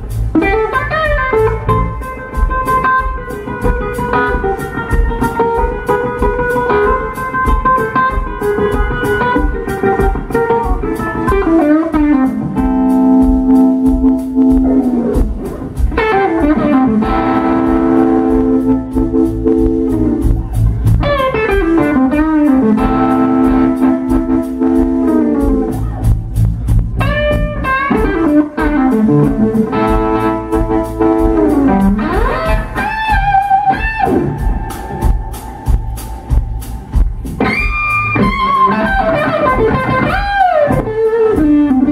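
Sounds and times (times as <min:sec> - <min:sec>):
electric bass: 0:00.0 - 0:04.6, 0:11.2 - 0:41.9
electric guitar lead: 0:00.0 - 0:41.9
steady drum beat: 0:00.0 - 0:41.9.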